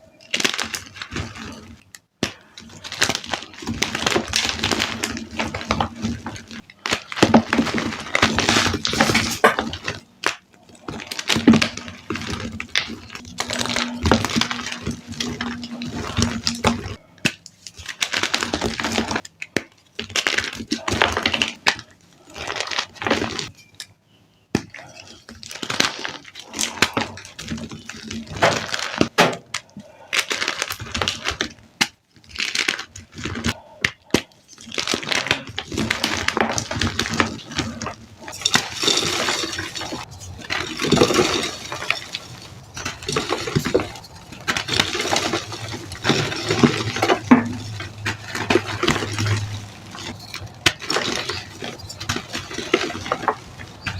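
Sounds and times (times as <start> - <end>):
chalk blocks crunching: 0.0 - 23.6, 24.5 - 53.9.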